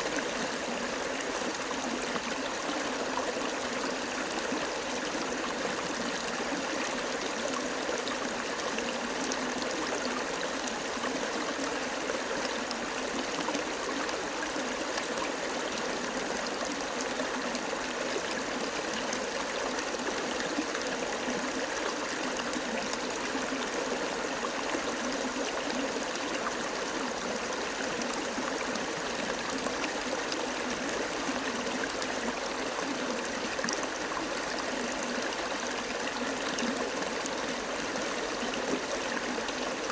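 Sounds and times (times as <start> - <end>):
water flowing steadily: 0.0 - 39.9.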